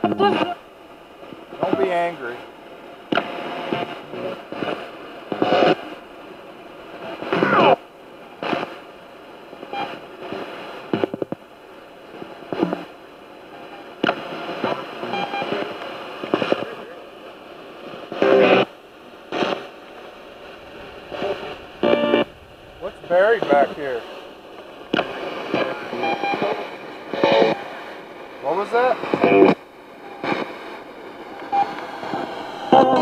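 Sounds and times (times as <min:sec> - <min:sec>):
snatches of broadcast voices: 0:00.0 - 0:00.6, 0:01.2 - 0:02.5, 0:03.1 - 0:06.0, 0:09.6 - 0:11.4, 0:12.1 - 0:33.0
radio static hiss: 0:00.0 - 0:33.0.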